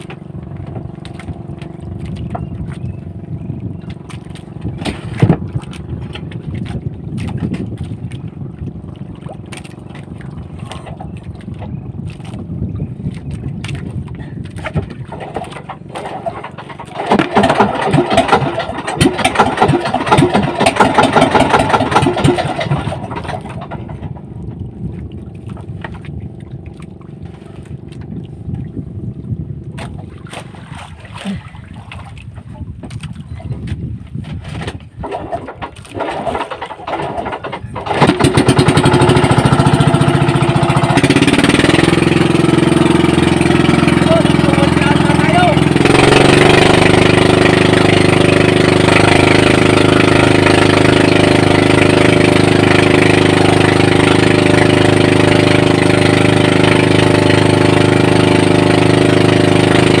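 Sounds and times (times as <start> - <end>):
boat engine running: 0.0 - 60.0.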